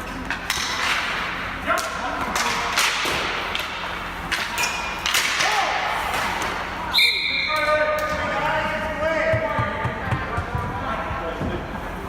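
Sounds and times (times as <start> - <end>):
players' voices: 0.1 - 12.0.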